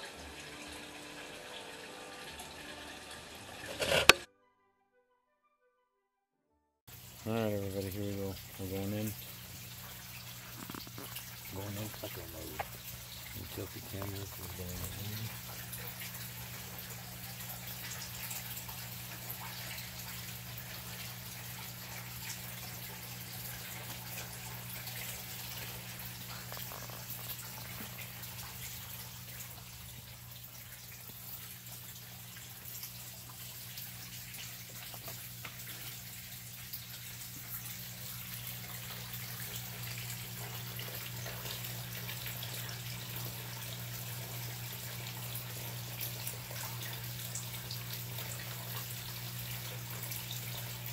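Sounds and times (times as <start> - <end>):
water running and trickling: 0.0 - 3.9, 6.9 - 50.9
small water drips: 6.9 - 50.9.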